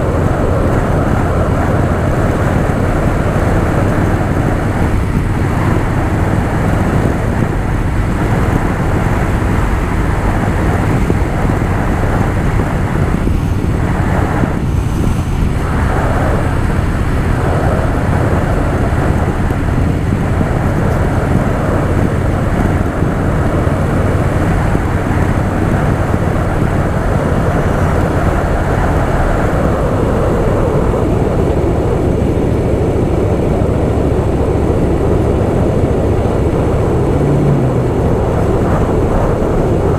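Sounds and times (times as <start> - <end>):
motorcycle engine running: 0.0 - 39.9
road noise: 0.0 - 39.9
wind rushing: 0.0 - 39.9.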